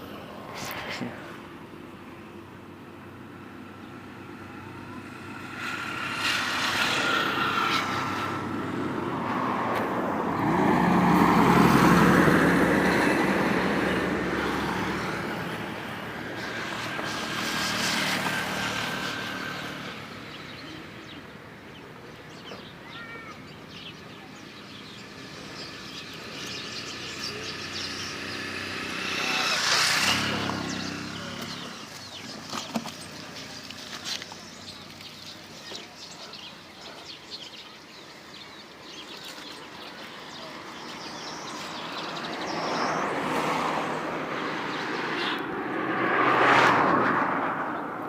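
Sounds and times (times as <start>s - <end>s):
vehicle passing by: 3.3s - 22.6s, 23.4s - 48.0s.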